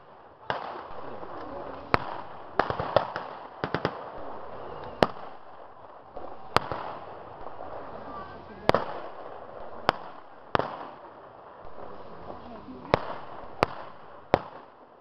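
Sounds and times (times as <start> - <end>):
blank gunshots: 0.0 - 14.7.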